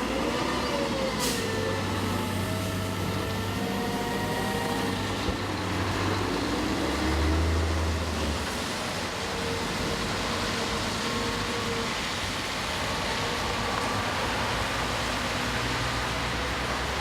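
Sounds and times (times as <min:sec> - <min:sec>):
cars on wet road: 0:00.0 - 0:17.0
steady rain: 0:00.0 - 0:17.0.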